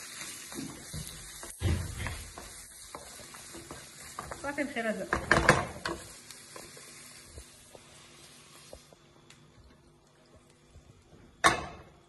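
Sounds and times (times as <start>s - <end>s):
mushrooms sizzling in a pan: 0.0s - 12.0s.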